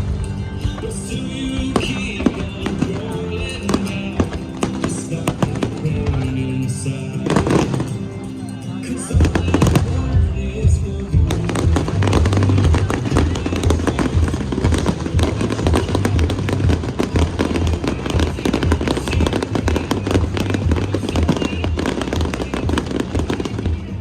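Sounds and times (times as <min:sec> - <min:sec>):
fireworks bursting and crackling: 0:00.0 - 0:24.0
loud music with pulsing bass: 0:00.0 - 0:24.0.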